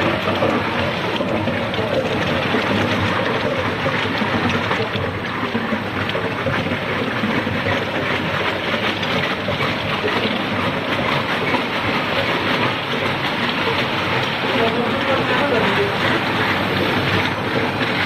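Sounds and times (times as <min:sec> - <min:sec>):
ice machine clattering: 0:00.0 - 0:18.0.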